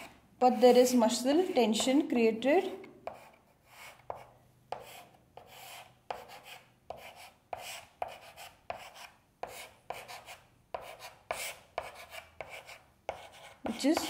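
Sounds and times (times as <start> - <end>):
chalk scratching on a chalkboard: 0.0 - 2.0, 3.0 - 14.0.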